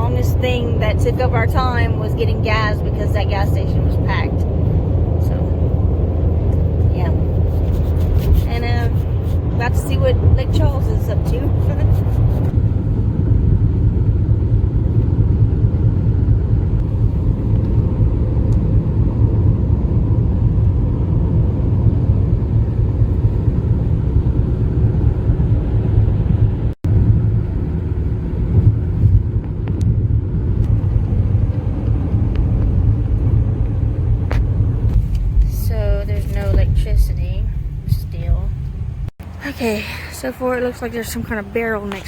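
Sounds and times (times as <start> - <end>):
road and engine noise in car cabin: 0.0 - 42.0.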